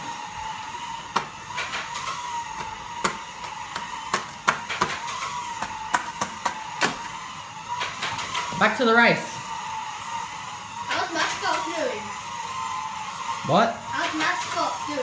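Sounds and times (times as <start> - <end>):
electric slot-car motors whining: 0.0 - 15.0.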